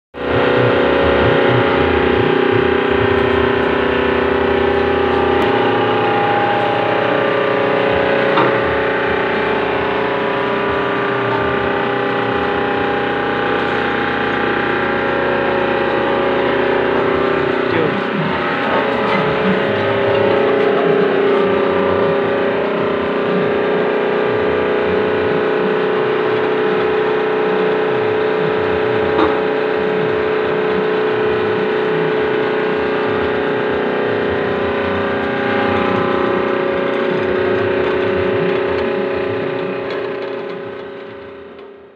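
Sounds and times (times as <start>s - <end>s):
electric motor humming: 0.2s - 41.9s.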